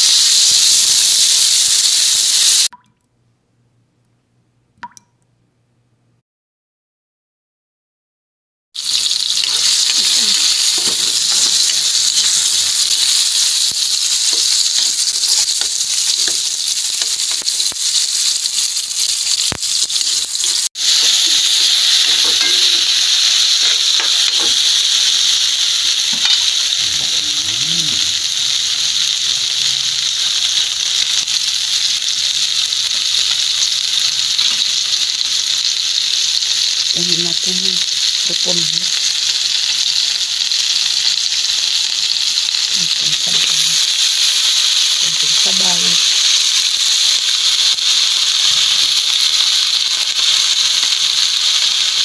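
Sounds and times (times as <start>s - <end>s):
food sizzling in hot oil: 0.0s - 2.7s, 8.8s - 52.0s.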